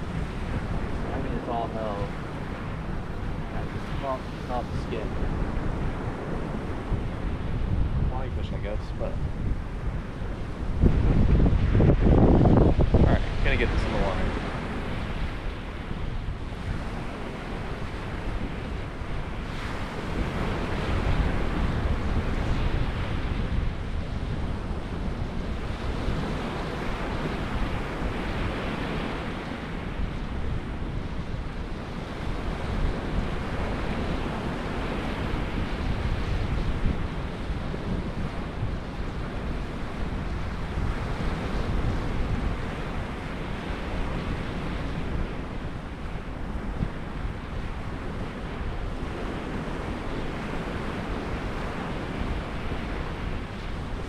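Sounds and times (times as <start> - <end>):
ocean surf washing onto beach: 0.0 - 54.0
wind buffeting microphone: 0.0 - 54.0.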